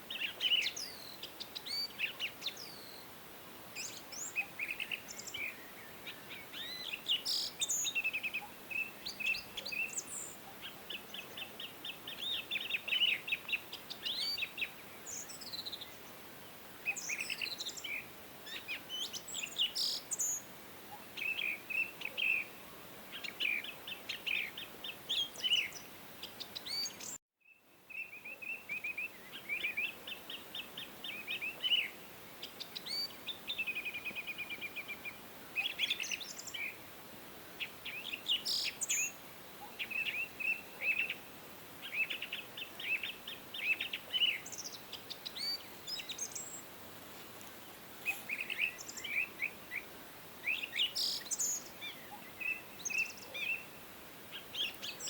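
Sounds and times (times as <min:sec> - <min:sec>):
songbirds singing: 0:00.0 - 0:37.0, 0:37.6 - 0:46.8, 0:47.4 - 0:55.0
soft steady hiss: 0:00.0 - 0:55.0.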